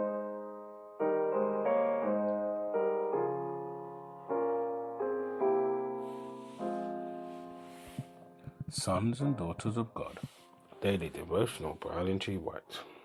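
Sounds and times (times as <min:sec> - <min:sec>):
slow piano chords: 0:00.0 - 0:12.7.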